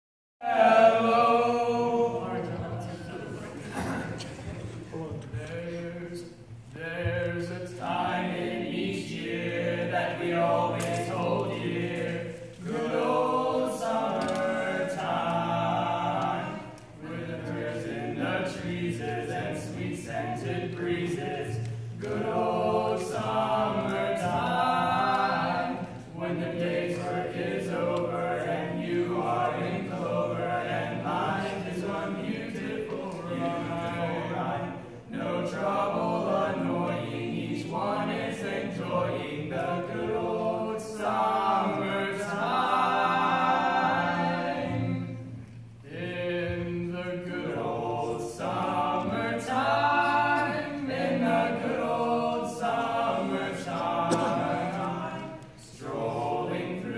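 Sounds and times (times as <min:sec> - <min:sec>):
male quartet singing a cappella: 0:00.4 - 0:04.0, 0:05.2 - 0:56.9.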